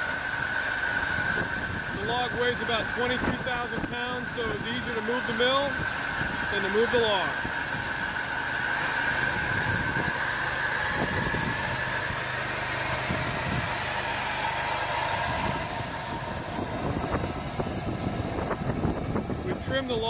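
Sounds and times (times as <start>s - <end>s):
sawmill cutting log: 0.0s - 20.0s.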